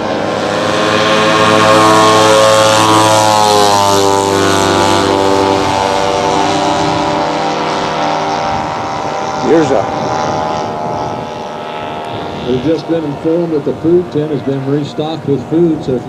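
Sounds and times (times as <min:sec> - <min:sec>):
model plane piston engines: 0:00.0 - 0:16.0.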